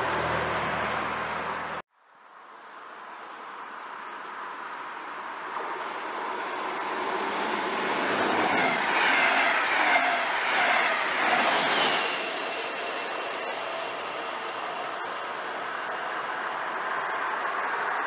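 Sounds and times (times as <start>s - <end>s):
train passing on track: 0.0s - 1.8s, 2.6s - 18.0s.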